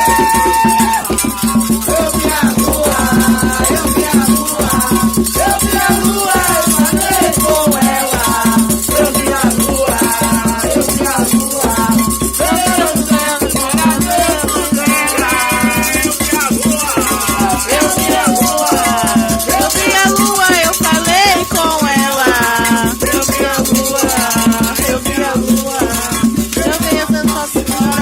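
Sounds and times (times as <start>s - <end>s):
shaken rattle: 0.0s - 28.0s
steady drumming: 0.0s - 28.0s
voices singing a chant: 0.0s - 28.0s.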